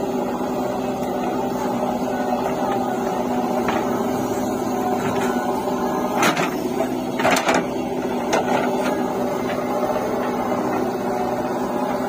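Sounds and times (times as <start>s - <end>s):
diesel engine running under load: 0.0s - 12.0s
soil being dumped: 0.1s - 12.0s.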